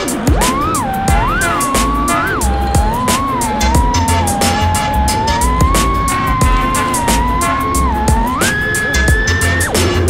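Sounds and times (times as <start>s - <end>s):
high whine of drone motors: 0.0s - 10.0s
music with a steady beat: 0.0s - 10.0s.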